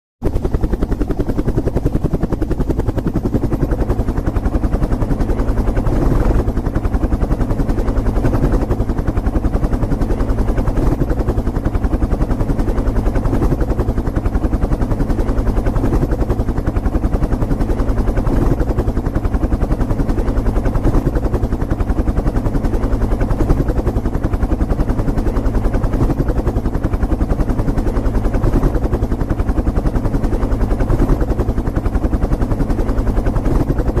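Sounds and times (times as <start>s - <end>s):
helicopter rotor chopping: 0.2s - 34.0s.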